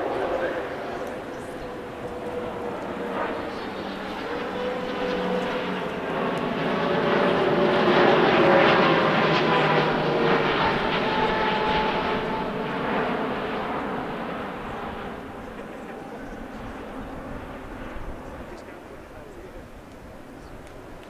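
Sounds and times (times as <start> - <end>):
jet engines roaring overhead: 0.0 - 21.0.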